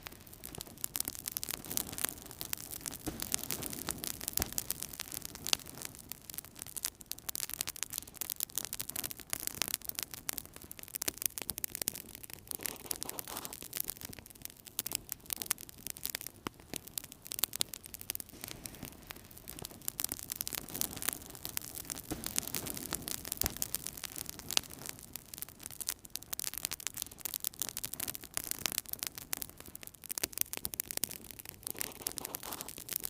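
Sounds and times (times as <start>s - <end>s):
low rumble of flame: 0.0s - 33.0s
wood fire crackling: 0.0s - 33.0s.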